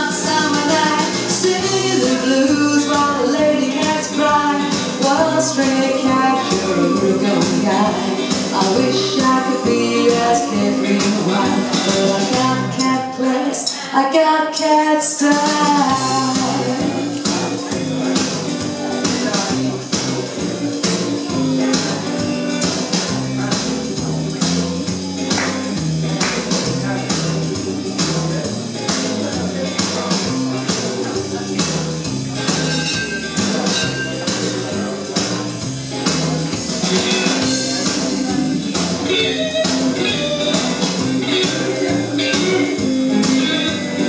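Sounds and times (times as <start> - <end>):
rockabilly backing track: 0.0 - 44.0.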